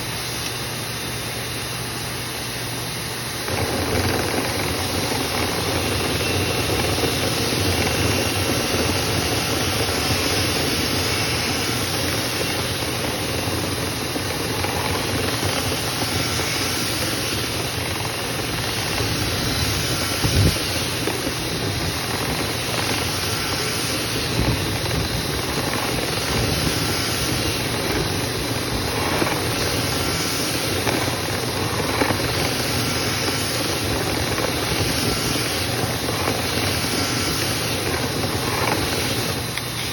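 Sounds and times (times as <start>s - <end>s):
motor running with high whine: 0.0s - 39.9s.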